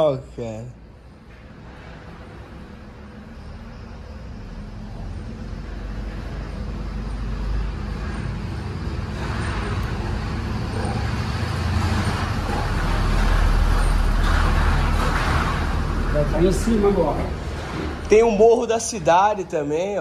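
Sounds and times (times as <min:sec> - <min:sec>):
motor vehicle rumble: 0:00.9 - 0:19.3.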